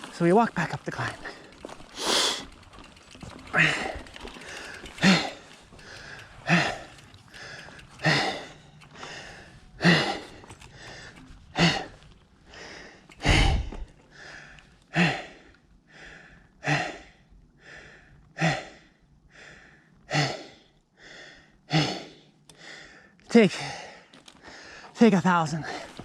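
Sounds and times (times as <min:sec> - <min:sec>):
person breathing hard: 0:01.3 - 0:02.6, 0:03.5 - 0:25.0.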